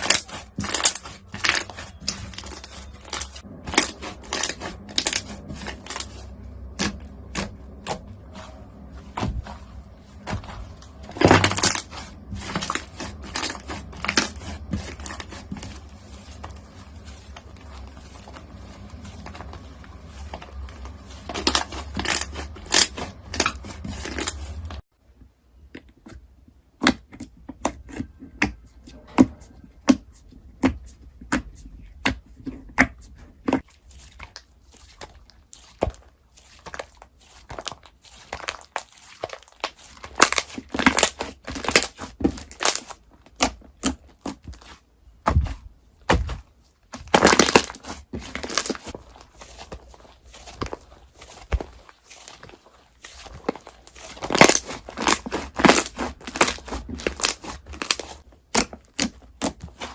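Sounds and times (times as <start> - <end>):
crunchy slime crackling: 0.0 - 24.9, 33.6 - 59.9.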